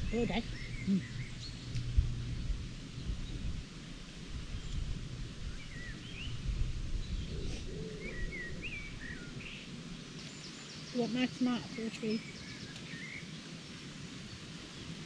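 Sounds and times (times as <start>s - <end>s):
songbird chirping: 0.0s - 3.7s, 4.3s - 15.0s
low rumble of outdoor background: 0.0s - 15.0s.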